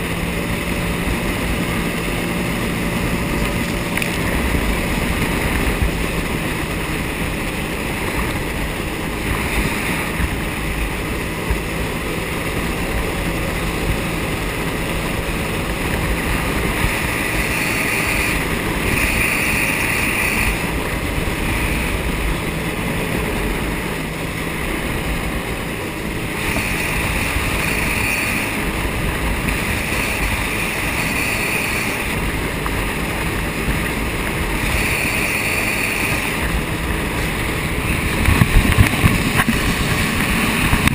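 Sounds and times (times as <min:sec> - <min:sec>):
jet ski engine: 0:00.0 - 0:40.9
water rushing: 0:00.0 - 0:40.9
wind buffeting microphone: 0:00.0 - 0:40.9.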